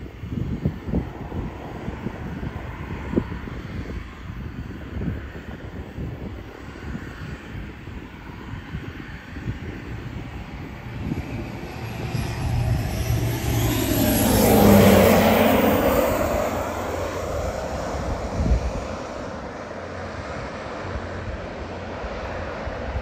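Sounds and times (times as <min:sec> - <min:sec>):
aircraft flying low overhead: 0:00.0 - 0:23.0.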